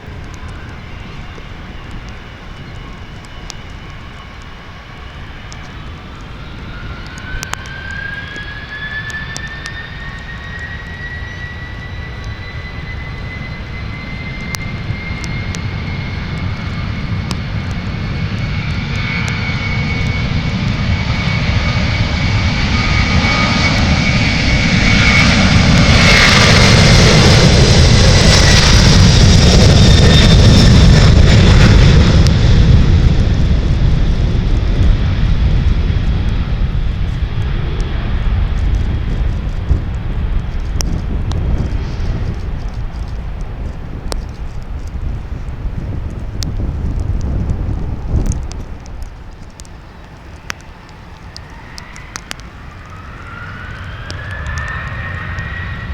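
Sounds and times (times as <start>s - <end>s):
jet engine whine: 0.0s - 55.9s
jet engines rumbling: 0.0s - 55.9s.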